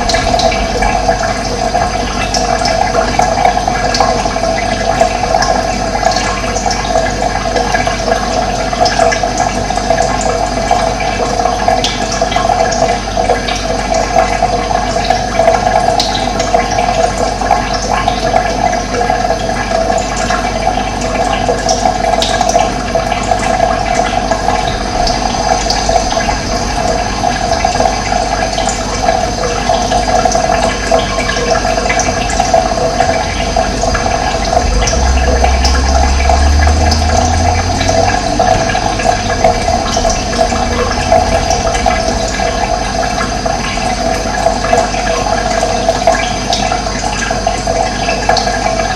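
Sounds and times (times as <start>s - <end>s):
running water: 0.0s - 48.9s.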